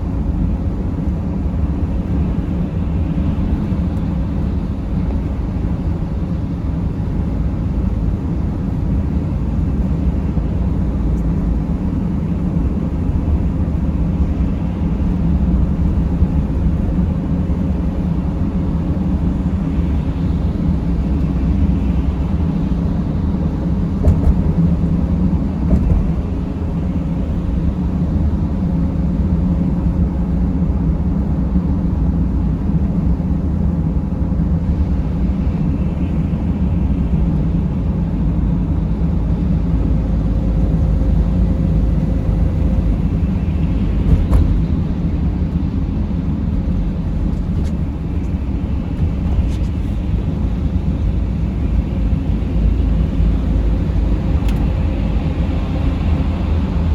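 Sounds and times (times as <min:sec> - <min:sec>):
van engine and road noise: 0:00.0 - 0:56.9.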